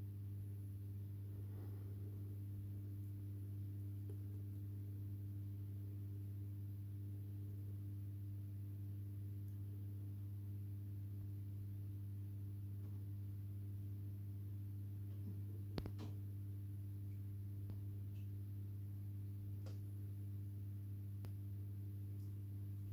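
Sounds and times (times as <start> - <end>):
aquarium filter pump humming: 0.0 - 22.9.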